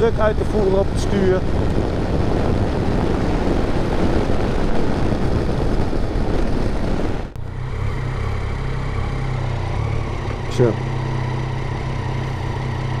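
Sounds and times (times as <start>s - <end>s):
motorcycle engine at speed: 0.0s - 13.0s
wind on microphone: 0.0s - 13.0s.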